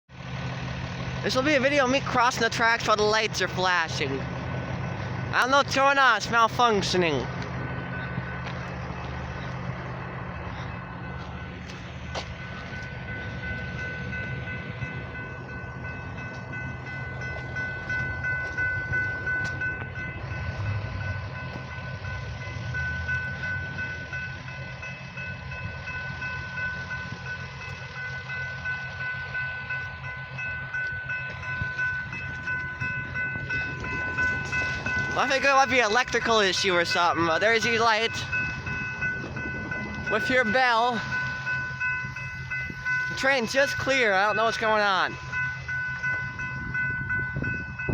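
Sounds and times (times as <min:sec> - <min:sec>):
railroad crossing bell ringing: 0:00.1 - 0:47.9.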